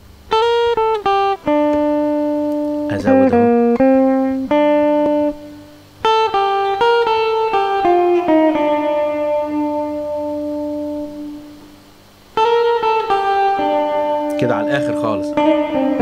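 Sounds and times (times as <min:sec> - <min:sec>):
electric guitar picked notes: 0:00.0 - 0:16.0.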